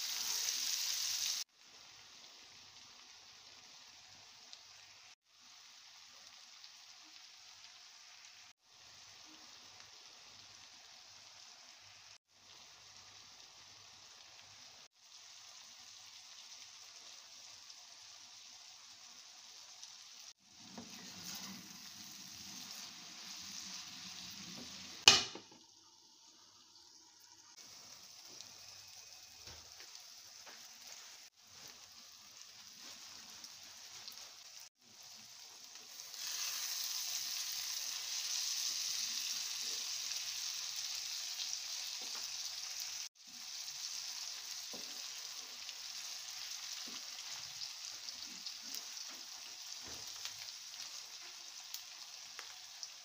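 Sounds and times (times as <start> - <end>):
vegetables sizzling in a pan: 0.0 - 53.0.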